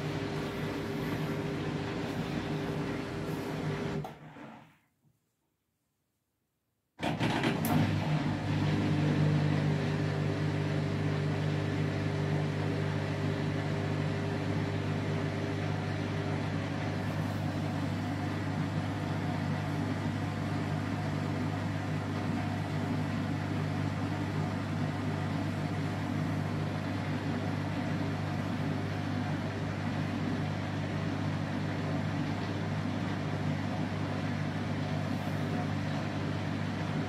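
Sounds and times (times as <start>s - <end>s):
washing machine humming: 0.0s - 4.9s, 7.0s - 37.0s.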